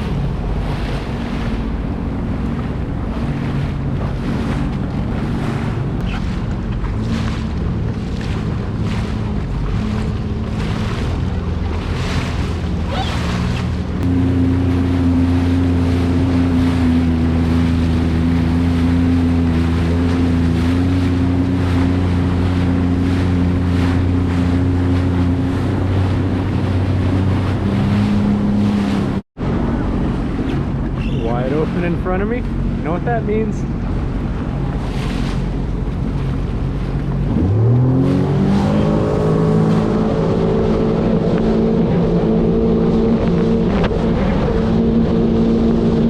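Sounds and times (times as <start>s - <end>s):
hull slapping across waves: 0.0s - 46.0s
jet ski engine running: 0.0s - 46.0s
wind on microphone: 0.0s - 46.0s.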